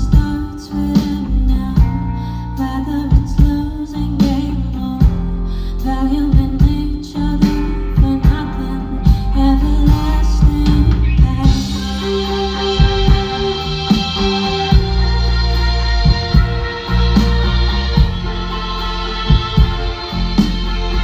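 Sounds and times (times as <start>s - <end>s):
female lead vocal: 0.0s - 21.0s
rock band playing: 0.0s - 21.0s.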